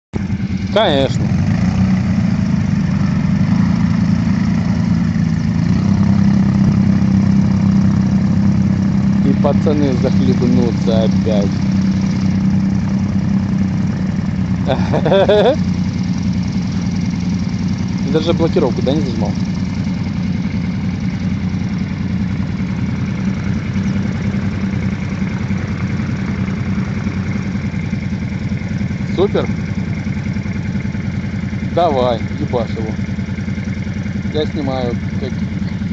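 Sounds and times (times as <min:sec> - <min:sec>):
quad bike engine running: 0:00.2 - 0:35.9.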